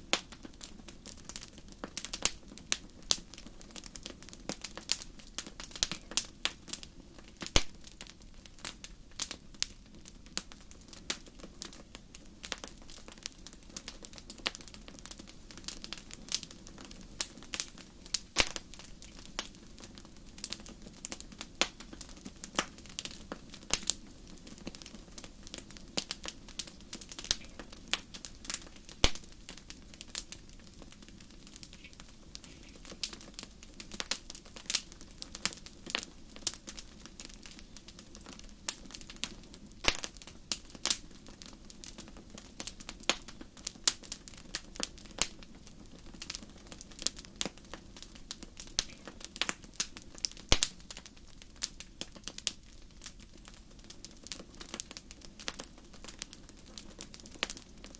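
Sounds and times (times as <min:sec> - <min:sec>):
fire crackling in a fireplace: 0:00.0 - 0:57.9.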